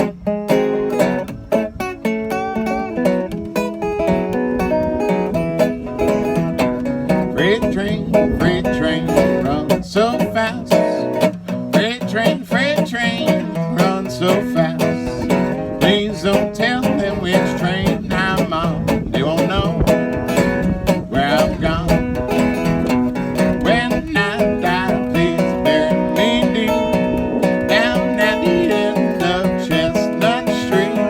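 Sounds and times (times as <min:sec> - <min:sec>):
fingerpicked acoustic guitar: 0:00.0 - 0:31.0.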